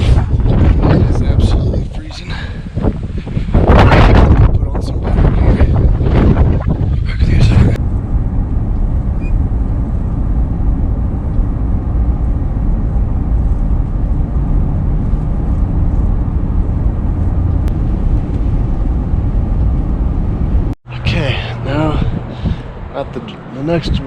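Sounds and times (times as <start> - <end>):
truck driving rumble: 0.0 - 24.0.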